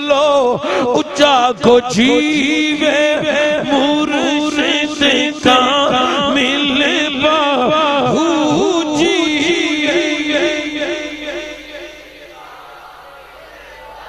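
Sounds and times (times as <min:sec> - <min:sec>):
man chanting through microphone: 0:00.0 - 0:14.0.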